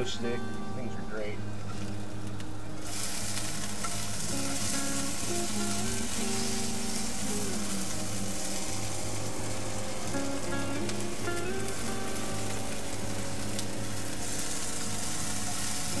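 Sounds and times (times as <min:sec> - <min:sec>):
hash browns sizzling in frying pan: 0:01.6 - 0:16.0.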